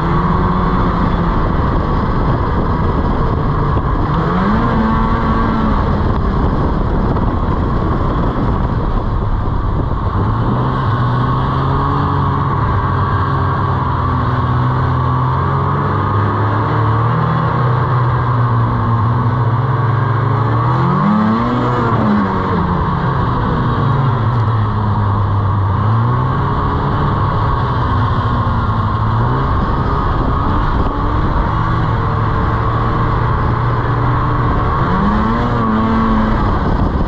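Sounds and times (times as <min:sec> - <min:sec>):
snowmobile engine running: 0:00.0 - 0:37.0
steady rushing noise: 0:00.0 - 0:37.0.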